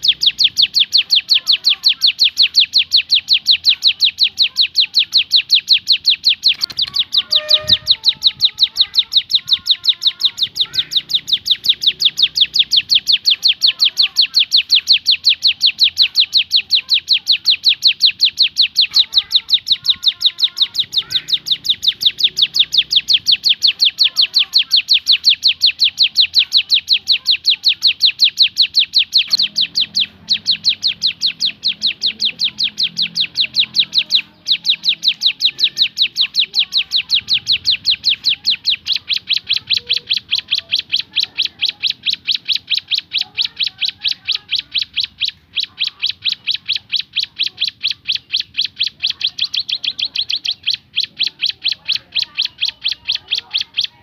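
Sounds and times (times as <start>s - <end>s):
bird calling sharp high notes: 0.0s - 54.0s.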